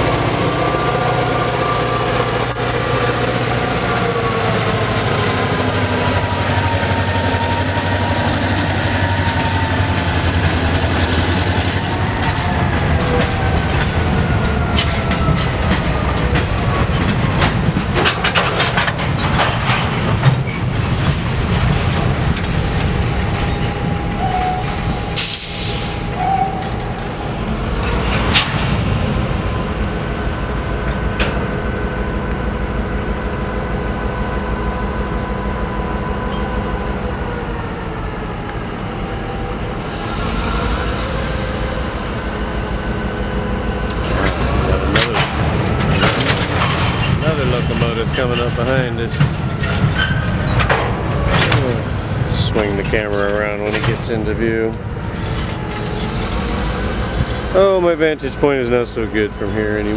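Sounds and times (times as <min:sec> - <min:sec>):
wheels clacking over rail joints: 0:00.0 - 0:30.0, 0:39.2 - 0:59.9
diesel locomotive engines rumbling: 0:00.0 - 0:59.9.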